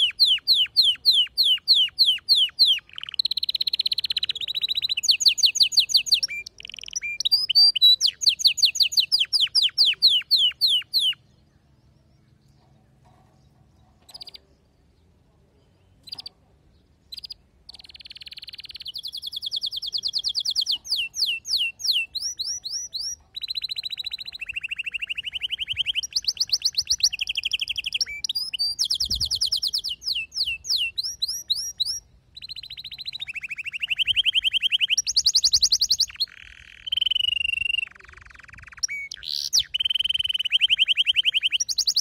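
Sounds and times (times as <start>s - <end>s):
canary singing trills: 0.0s - 42.0s.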